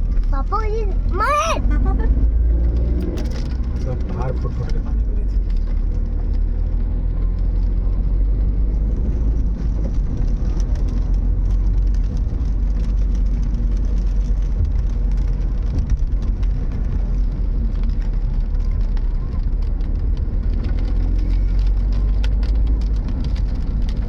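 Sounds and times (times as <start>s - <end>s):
car interior rumble: 0.0s - 24.0s.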